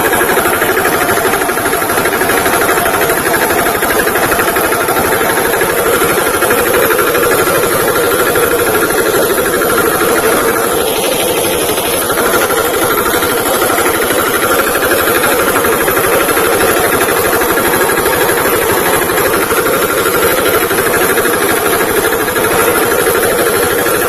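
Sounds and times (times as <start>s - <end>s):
tractor diesel engine knocking: 0.0s - 24.0s.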